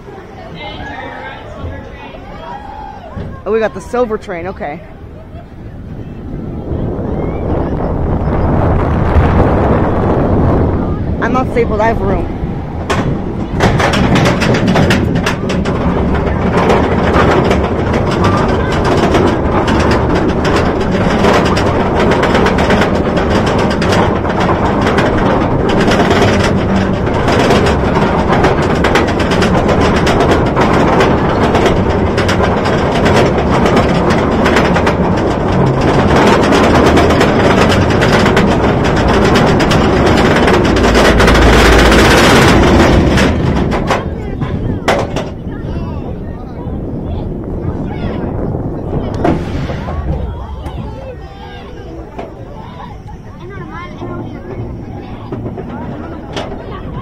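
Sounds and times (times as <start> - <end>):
roller coaster lift clatter: 0.0 - 57.0
low rumble: 1.4 - 57.0.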